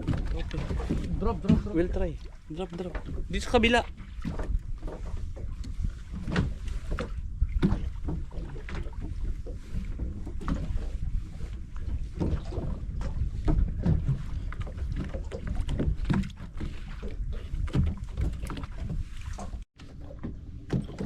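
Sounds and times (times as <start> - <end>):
wind buffeting microphone: 0.0 - 19.6
boat knocks: 0.0 - 21.0.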